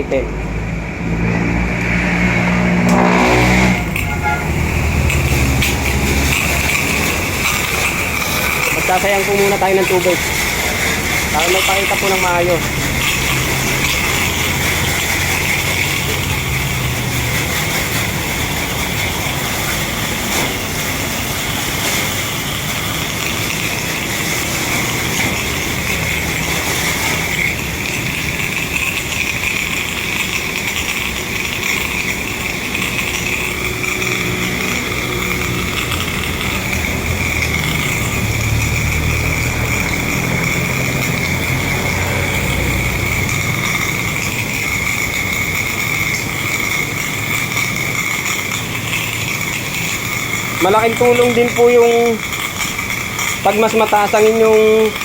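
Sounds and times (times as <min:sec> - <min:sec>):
pressure washer motor humming: 0:00.0 - 0:55.0
water spraying hiss: 0:03.0 - 0:55.0.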